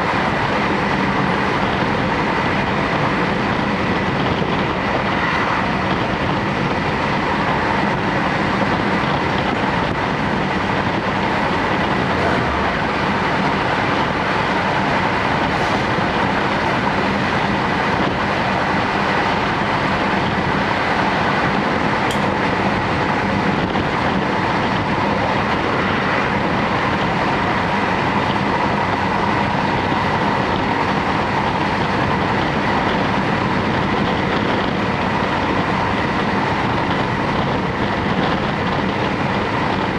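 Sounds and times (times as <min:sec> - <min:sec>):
constant train whine: 0:00.0 - 0:39.9
train wheels rumbling on rail: 0:00.0 - 0:39.9.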